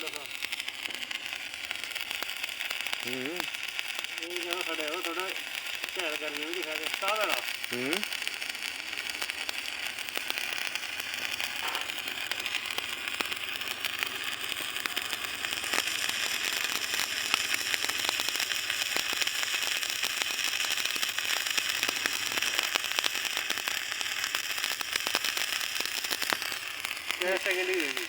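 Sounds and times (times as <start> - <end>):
arc welding crackling hiss: 0.0 - 28.0.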